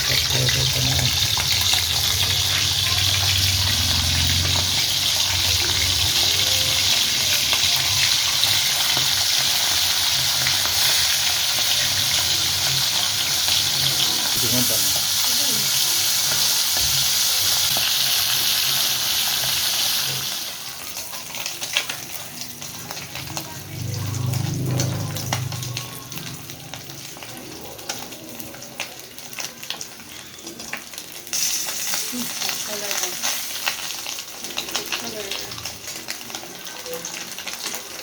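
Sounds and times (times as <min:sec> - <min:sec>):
fish frying in hot oil: 0:00.0 - 0:38.0.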